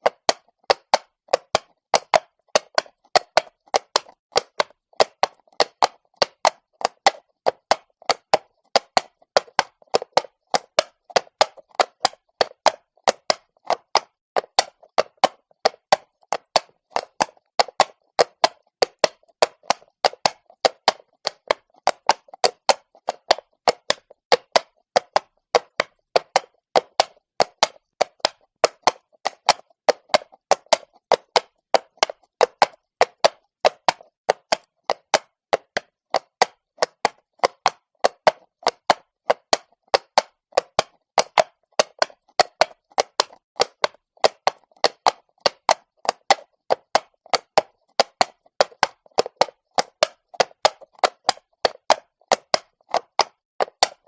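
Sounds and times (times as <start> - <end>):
horse hooves clopping on cobblestone: 0.0 - 54.0.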